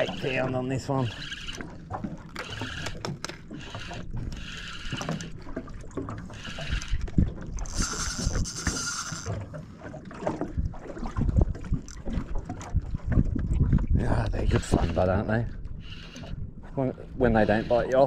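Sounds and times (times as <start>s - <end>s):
water splashing around boat: 0.0s - 18.0s.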